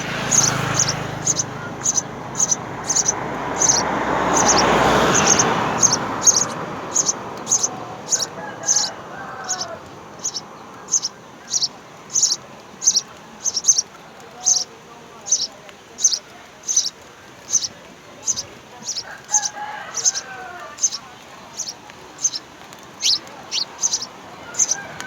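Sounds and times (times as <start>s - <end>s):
broad rushing noise: 0.0s - 25.0s
sparrows chirping: 0.0s - 25.0s.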